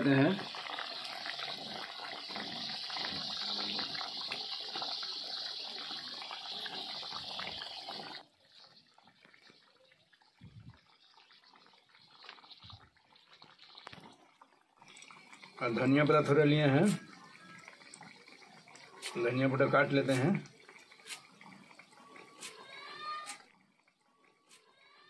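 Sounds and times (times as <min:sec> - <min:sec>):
curry bubbling and hissing: 0:00.0 - 0:25.0.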